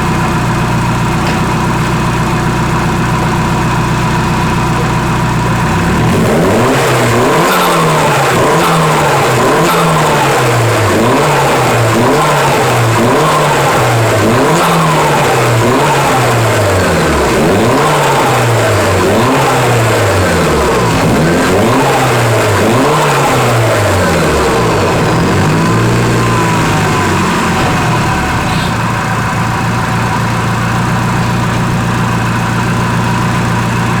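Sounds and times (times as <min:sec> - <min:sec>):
car engine idling: 0:00.0 - 0:34.0
car engine revving: 0:00.0 - 0:34.0.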